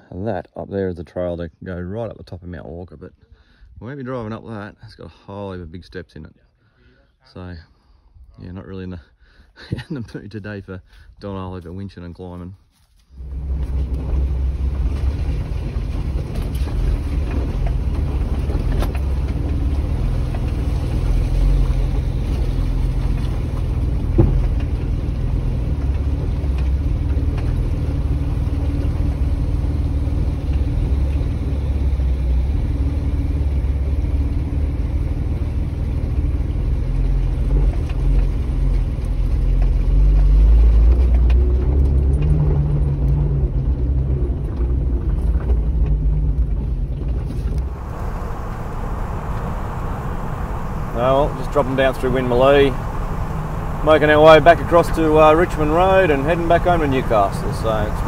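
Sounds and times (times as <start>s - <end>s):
vehicle engine rumbling under load: 9.4s - 58.0s.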